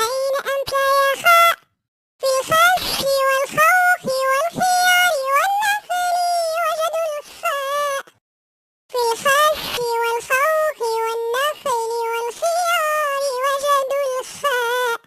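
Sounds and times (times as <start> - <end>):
high-pitched voice singing: 0.0 - 8.2, 8.9 - 15.0.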